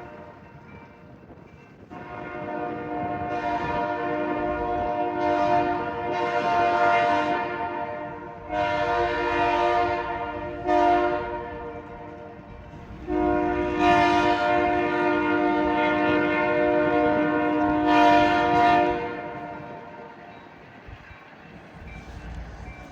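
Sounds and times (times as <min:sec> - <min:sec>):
low rumble of train: 0:00.0 - 0:22.9
locomotive air horn blasts: 0:01.9 - 0:20.3.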